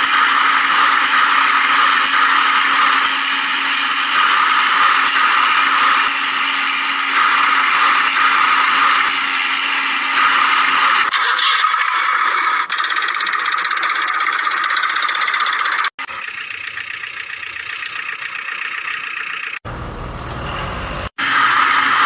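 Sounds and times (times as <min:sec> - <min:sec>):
small electric motor whirring: 0:00.0 - 0:11.1, 0:12.1 - 0:19.6.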